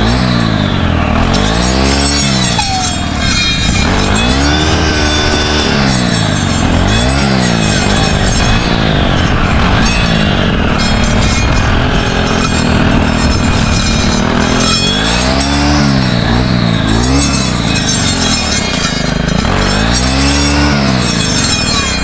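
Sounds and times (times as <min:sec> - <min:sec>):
brush cutter engine revving: 0:00.0 - 0:22.0.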